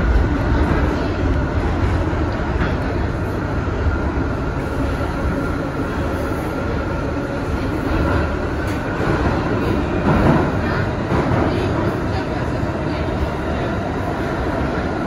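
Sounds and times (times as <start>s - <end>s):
subway wheels rumbling on rails: 0.0s - 15.0s.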